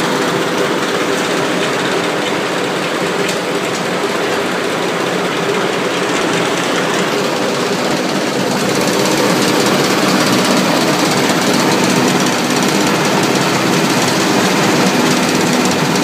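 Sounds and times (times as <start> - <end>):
pellet mill machinery noise: 0.0 - 16.0.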